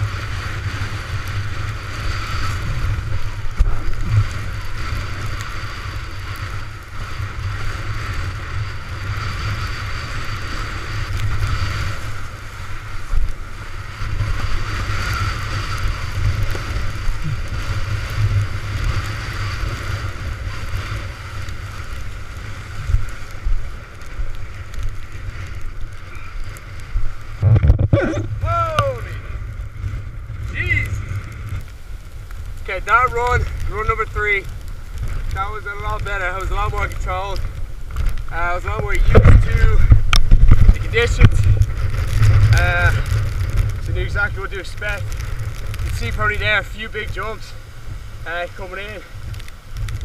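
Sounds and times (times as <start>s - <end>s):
water rushing and splashing: 0.0s - 50.0s
wind buffeting microphone: 0.0s - 50.0s.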